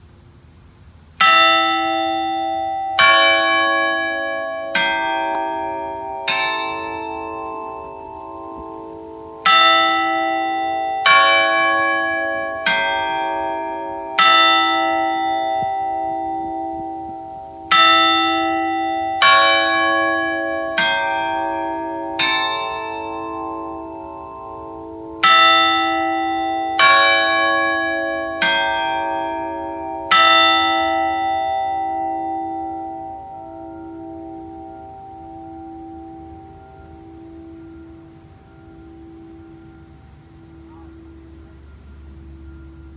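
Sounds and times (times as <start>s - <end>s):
tower bells chiming: 1.2s - 42.9s.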